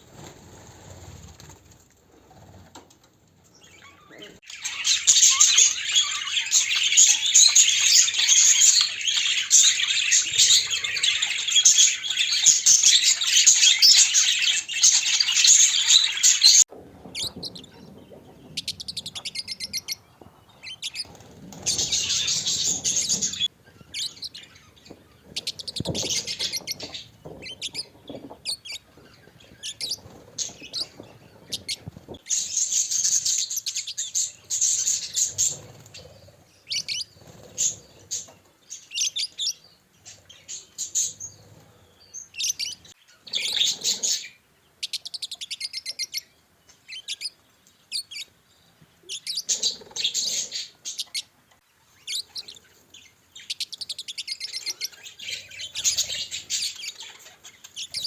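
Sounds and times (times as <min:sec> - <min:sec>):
budgerigars chirping and chattering: 0:03.5 - 0:48.4, 0:49.0 - 0:58.0.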